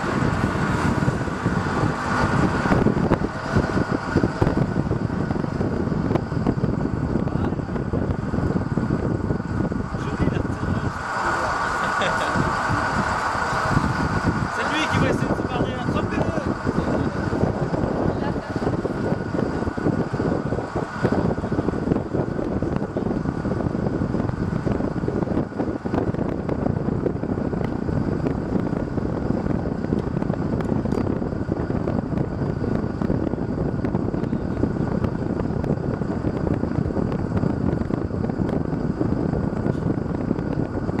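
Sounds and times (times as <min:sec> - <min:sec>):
wind noise on microphone: 0:00.0 - 0:41.0.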